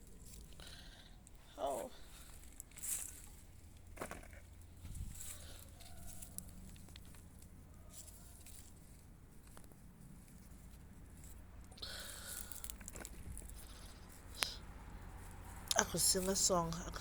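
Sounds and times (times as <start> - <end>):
soil crunching and rustling: 0.0 - 17.0
scraping in soil: 1.7 - 16.8.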